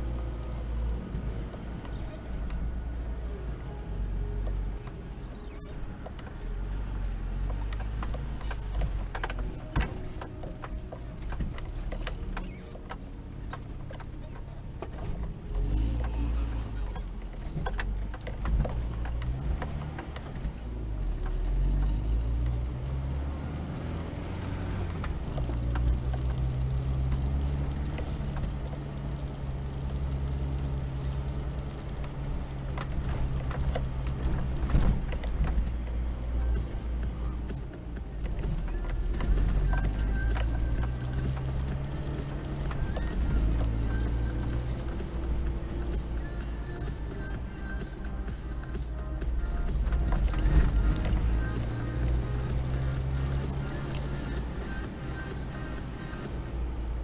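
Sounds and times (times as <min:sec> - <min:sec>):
body rattles and knocks: 0:00.0 - 0:56.4
car engine revving: 0:00.0 - 0:57.0.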